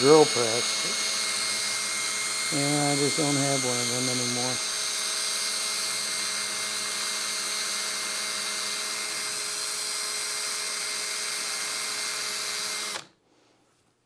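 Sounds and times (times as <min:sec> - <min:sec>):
cordless drill boring into metal: 0:00.0 - 0:13.1.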